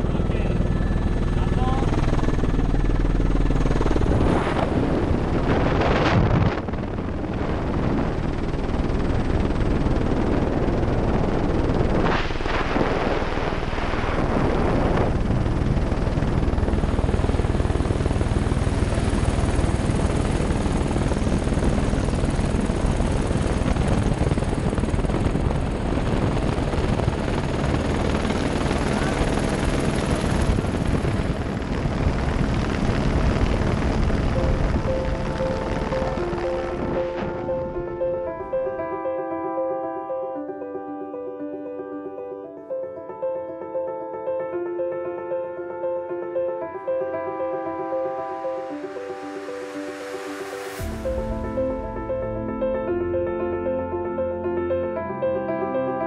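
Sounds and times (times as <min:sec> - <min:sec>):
helicopter rotor and turbine: 0:00.0 - 0:39.0, 0:47.0 - 0:55.0
rushing wind: 0:00.0 - 0:39.3, 0:46.8 - 0:55.0.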